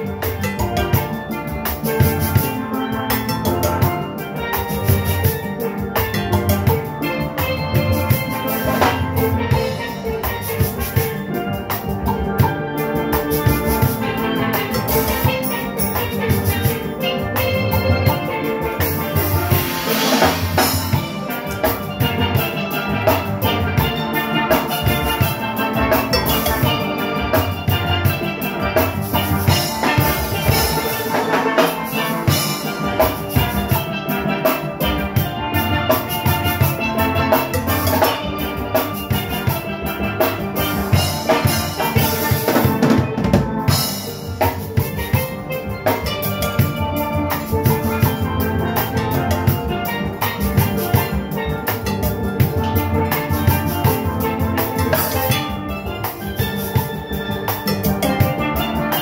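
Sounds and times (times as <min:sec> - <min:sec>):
drums and metal percussion: 0:00.0 - 0:59.0
steel pans playing tune: 0:00.0 - 0:59.0.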